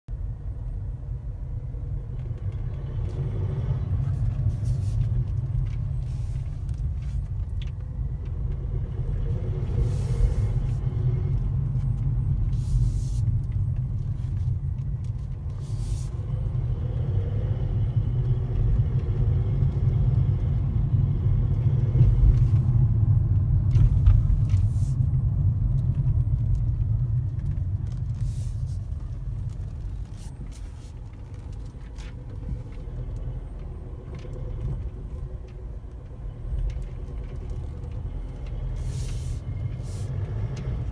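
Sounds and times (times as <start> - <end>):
car engine rumble: 0.1 - 40.9.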